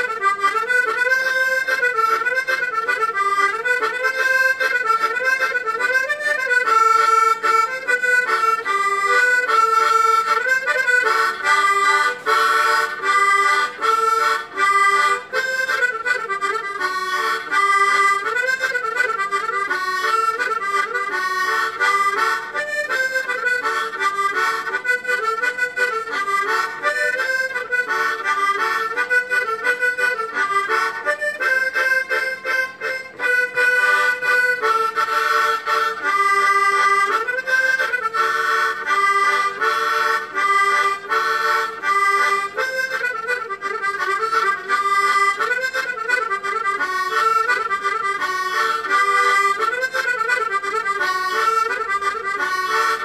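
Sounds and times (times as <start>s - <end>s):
solo harmonica dance tune: 0.0s - 53.0s.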